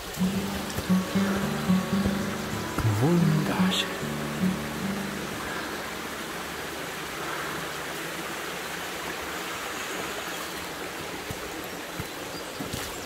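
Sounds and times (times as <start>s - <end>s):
brook water rushing: 0.0s - 13.0s.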